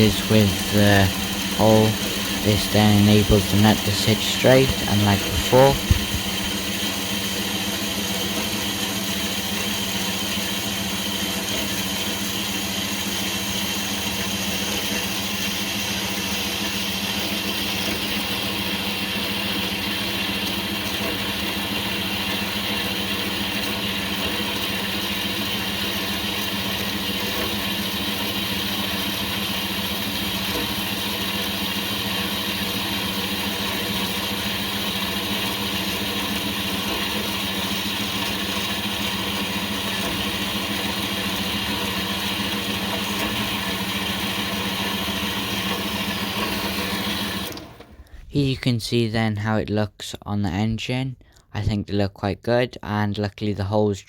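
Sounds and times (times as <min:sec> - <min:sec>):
bandsaw cutting metal: 0:00.0 - 0:47.7.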